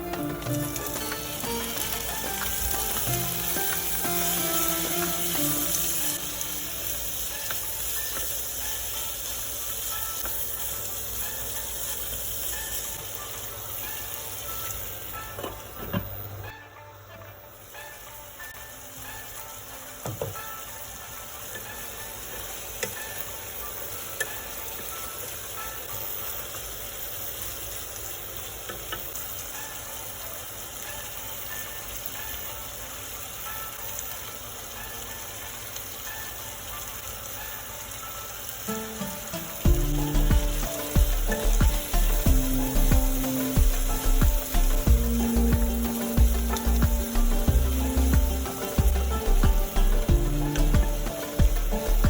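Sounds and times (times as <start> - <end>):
chicken sizzling in a pan: 0.0 - 52.0.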